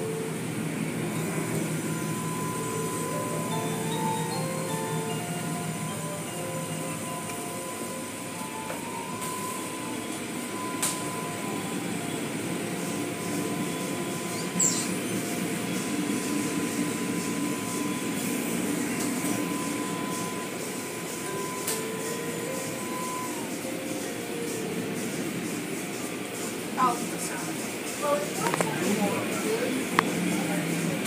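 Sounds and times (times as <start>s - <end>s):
thin steady whine: 0.0s - 31.0s.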